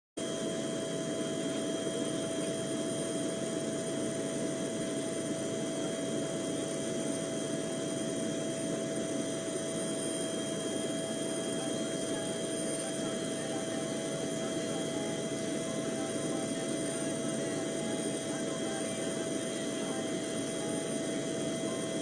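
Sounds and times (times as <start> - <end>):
helicopter engine running: 0.2 - 22.0.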